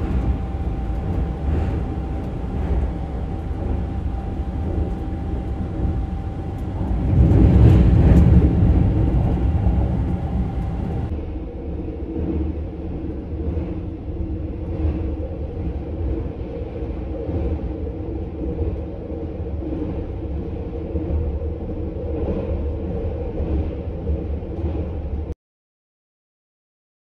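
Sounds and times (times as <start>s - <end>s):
train rumbling over bridge: 0.0s - 25.4s.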